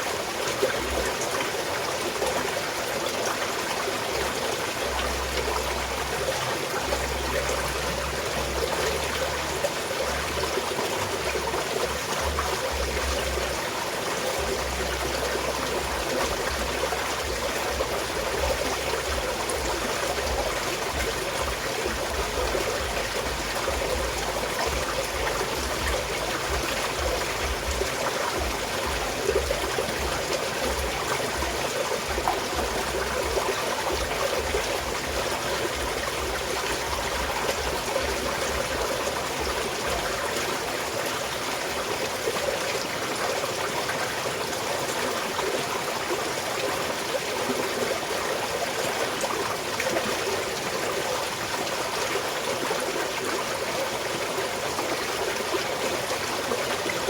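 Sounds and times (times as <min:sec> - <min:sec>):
stream flowing and trickling: 0:00.0 - 0:57.0.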